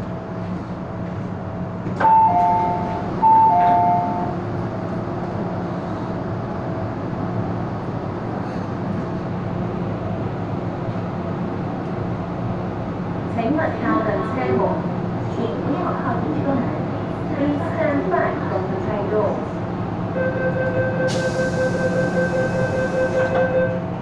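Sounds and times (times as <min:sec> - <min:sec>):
train car steady hum: 0:00.0 - 0:24.0.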